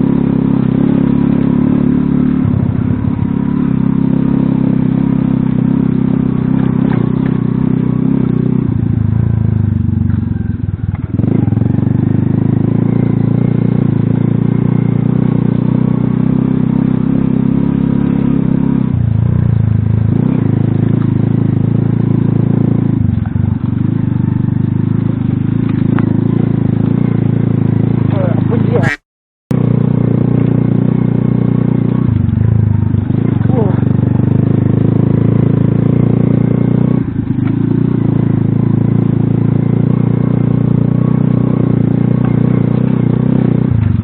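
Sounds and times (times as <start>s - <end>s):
motorcycle engine under load: 0.0s - 44.0s.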